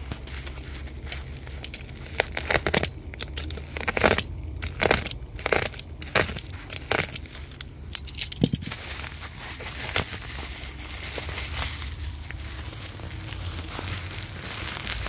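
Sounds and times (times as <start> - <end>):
plastic mailer crinkling: 0.0 - 15.0
plastic tearing: 0.0 - 15.0.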